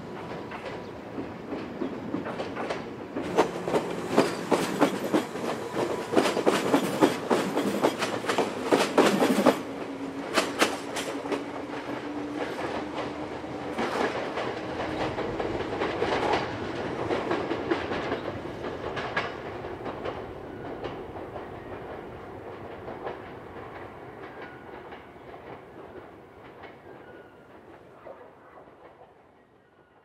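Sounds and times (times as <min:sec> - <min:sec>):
electric train running on track: 0:00.0 - 0:30.0.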